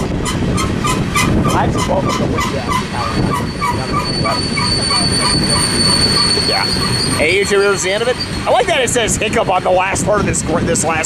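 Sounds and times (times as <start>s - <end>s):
high-pitched wheel squeal: 0.0s - 10.0s
freight train rumbling past: 0.0s - 11.0s
wheels clicking on rails: 0.0s - 11.0s.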